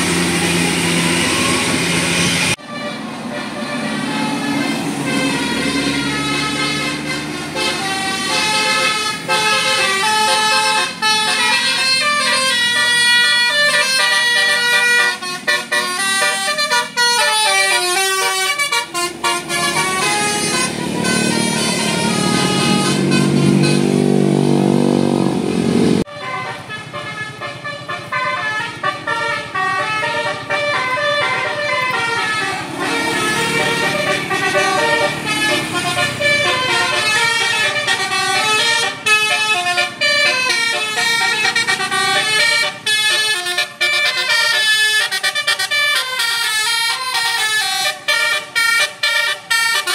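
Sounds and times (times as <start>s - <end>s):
musical bus horns: 0.0s - 49.9s.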